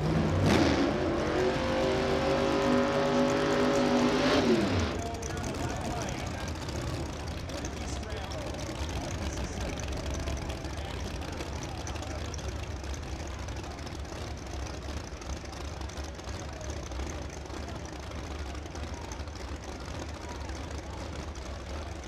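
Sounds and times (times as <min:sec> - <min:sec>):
race car engines idling: 0:00.0 - 0:22.0
crowd voices: 0:01.0 - 0:22.0.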